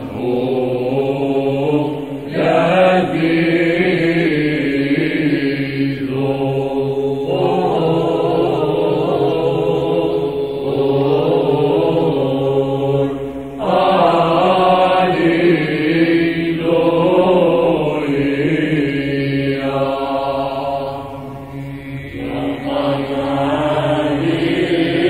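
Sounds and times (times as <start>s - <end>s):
group chanting: 0.0s - 25.0s
held vocal drone: 0.0s - 25.0s.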